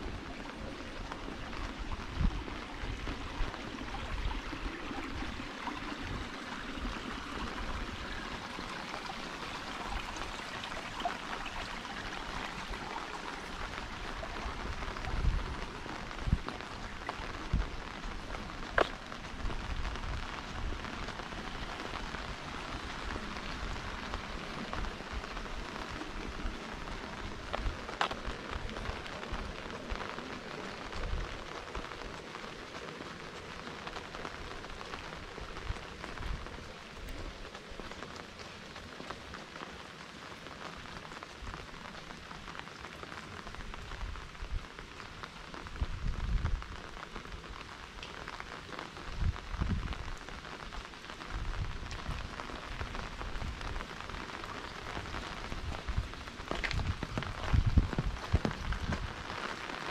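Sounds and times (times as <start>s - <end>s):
pouring rain: 0.0s - 59.9s.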